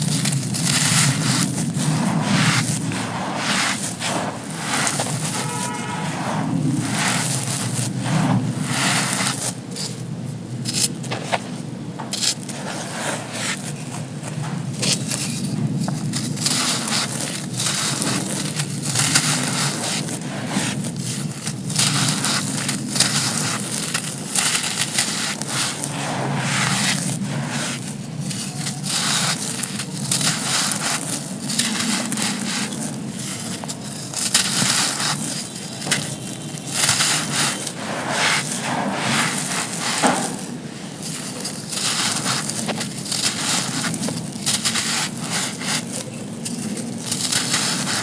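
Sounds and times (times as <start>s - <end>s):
dry sand crunching: 0.0s - 48.0s.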